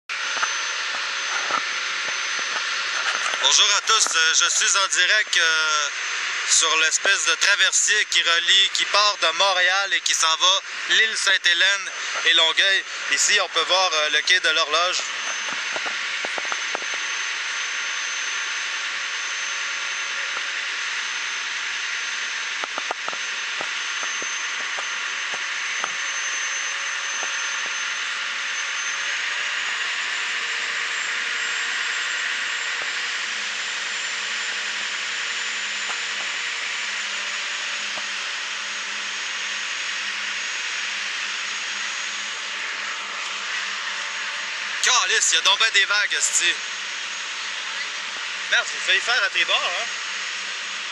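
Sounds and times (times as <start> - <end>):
thin high whine: 0.1 - 50.9.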